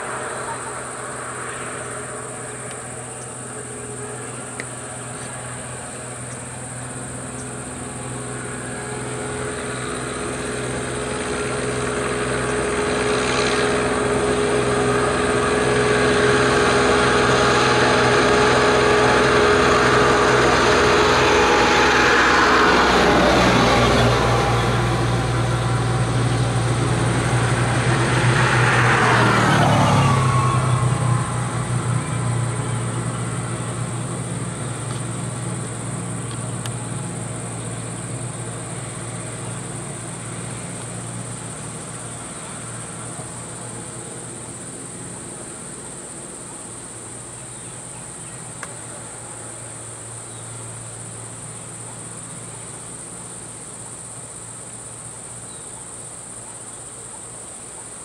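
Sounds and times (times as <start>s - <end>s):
high insect drone: 0.0s - 58.0s
vehicle engines passing: 0.0s - 58.0s.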